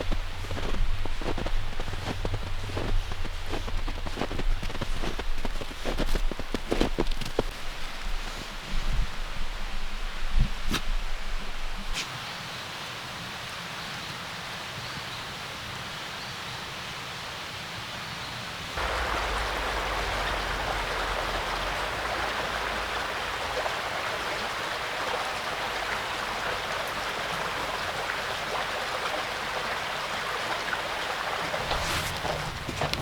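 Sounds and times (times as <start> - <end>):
stream water running: 0.0 - 14.5, 18.3 - 33.0.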